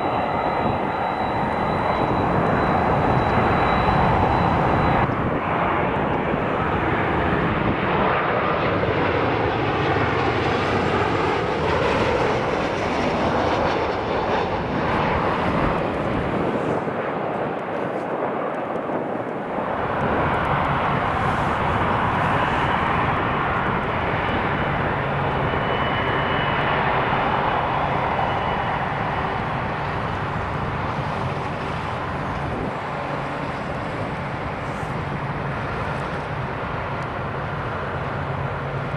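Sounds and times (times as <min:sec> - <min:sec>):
wind on microphone: 0:00.0 - 0:08.3, 0:12.6 - 0:18.2, 0:18.9 - 0:38.9
jet engines roaring: 0:00.0 - 0:38.9.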